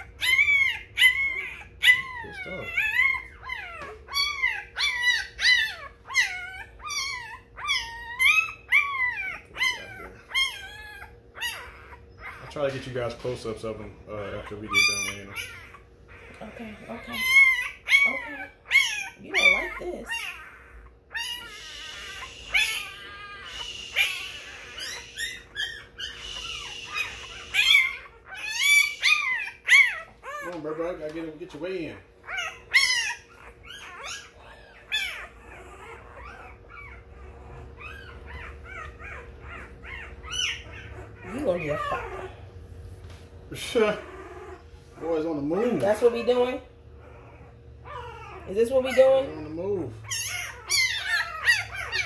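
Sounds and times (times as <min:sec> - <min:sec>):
puppy crying: 0:00.0 - 0:52.0.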